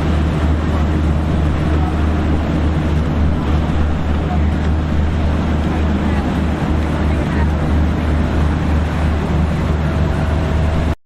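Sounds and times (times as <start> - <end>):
motorboat engines humming: 0.0 - 11.0
rushing water: 0.0 - 11.0
wind noise: 0.0 - 11.0.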